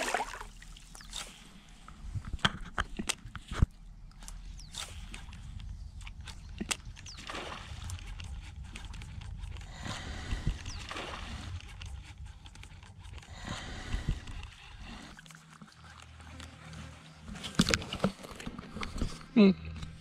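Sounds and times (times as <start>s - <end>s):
water sloshing around a kayak: 0.0s - 2.1s, 3.5s - 19.2s.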